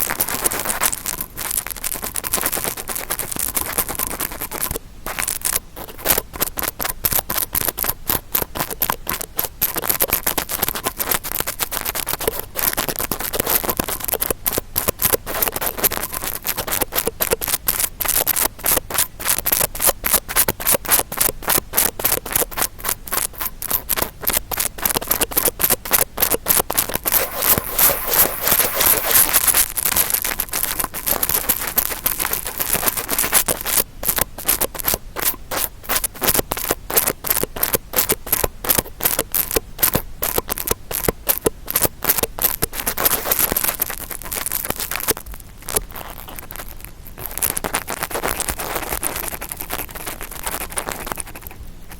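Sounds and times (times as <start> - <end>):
brush scratching a microphone: 0.0 - 51.9.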